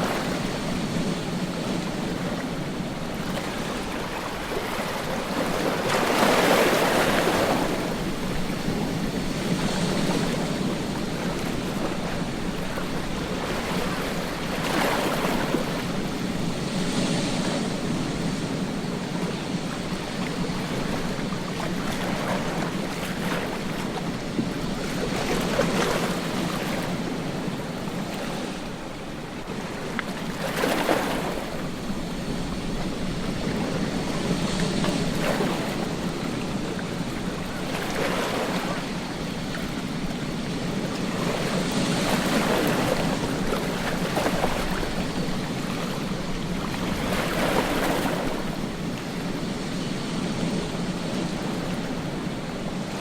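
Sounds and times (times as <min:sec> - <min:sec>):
ocean waves breaking on beach: 0:00.0 - 0:53.0.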